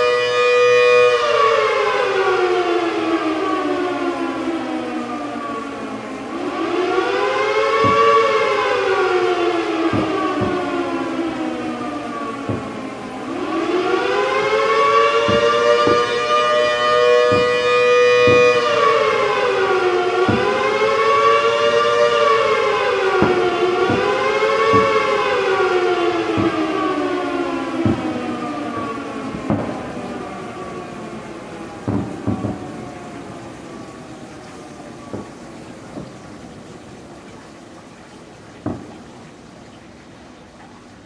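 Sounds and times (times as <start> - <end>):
two-tone siren wailing: 0.0 - 41.0.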